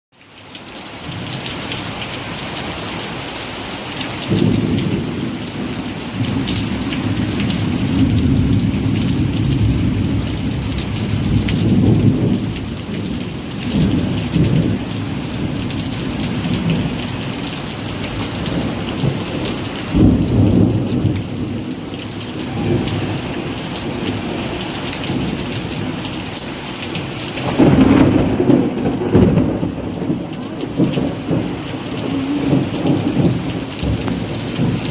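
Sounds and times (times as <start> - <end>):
rain hissing: 1.1 - 34.9
low rolling thunder: 4.3 - 34.9.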